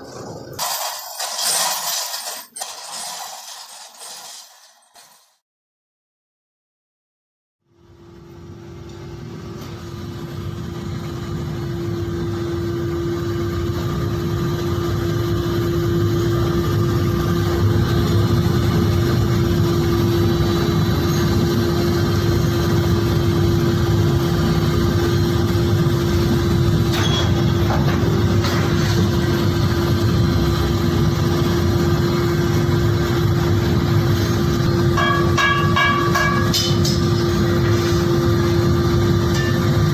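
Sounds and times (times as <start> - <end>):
factory machinery droning: 7.7 - 39.9.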